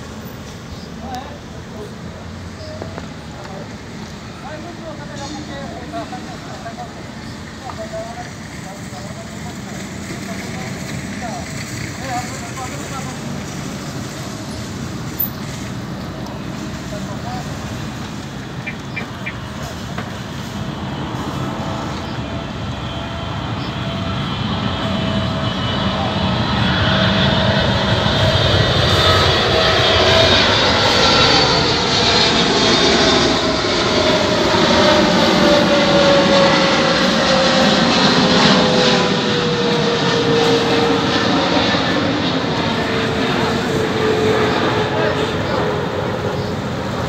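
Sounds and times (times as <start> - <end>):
jet airliner passing overhead: 0.0 - 47.0.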